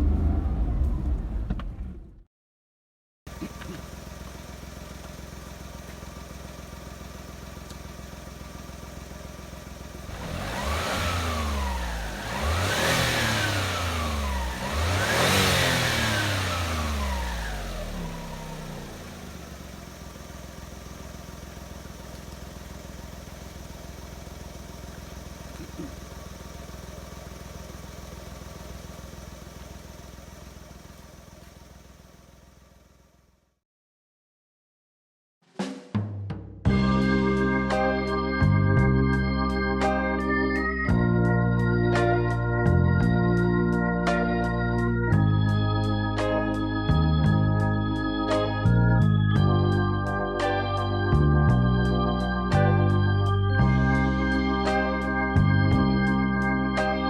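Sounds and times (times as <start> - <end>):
engine idling and revving: 0.0 - 2.2, 3.3 - 33.4, 36.7 - 57.0.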